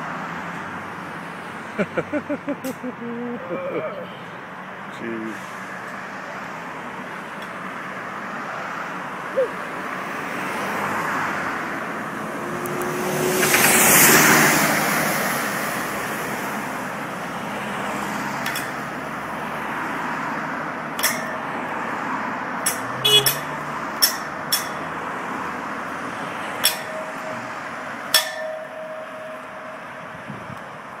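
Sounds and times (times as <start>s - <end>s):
road traffic: 0.0s - 31.0s
vehicle passing loudly: 5.3s - 31.0s.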